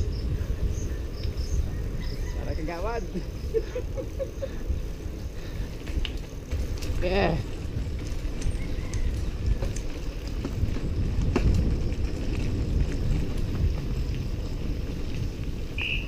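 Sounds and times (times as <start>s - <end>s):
bike clicks and rattles: 0.0s - 16.0s
tyres rumbling on dirt road: 0.0s - 16.0s
wind buffeting microphone: 0.0s - 16.0s.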